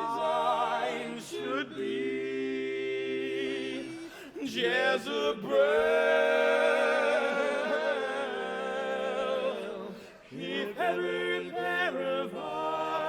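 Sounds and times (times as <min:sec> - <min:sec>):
male quartet singing a cappella: 0:00.0 - 0:13.0.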